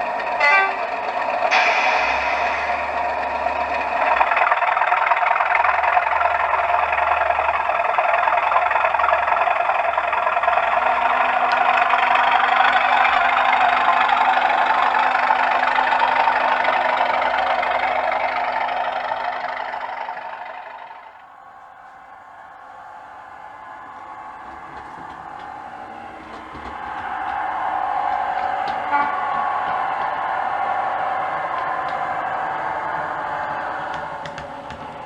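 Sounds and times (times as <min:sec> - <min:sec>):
model locomotive engine sound: 0:00.0 - 0:35.0.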